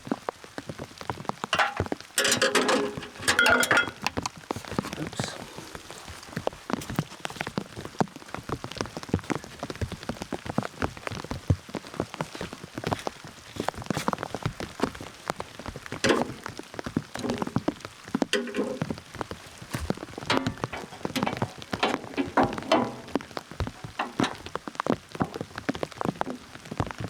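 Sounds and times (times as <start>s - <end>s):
rain pattering on surfaces: 0.0s - 27.0s.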